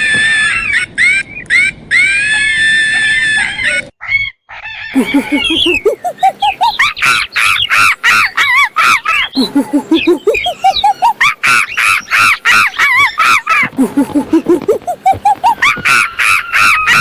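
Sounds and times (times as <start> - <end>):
monkey hooting and screeching: 0.0 - 17.0.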